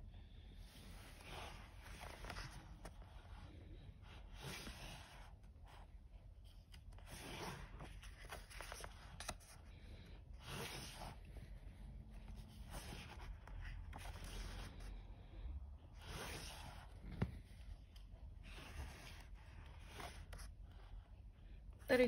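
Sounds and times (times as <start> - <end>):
paper pages rustling: 0.7 - 15.0, 16.0 - 20.9.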